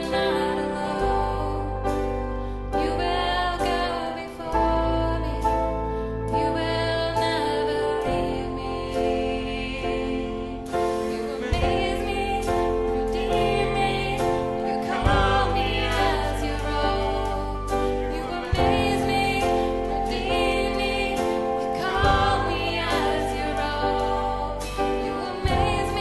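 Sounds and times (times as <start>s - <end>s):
slow worship music with singing: 0.0s - 26.0s.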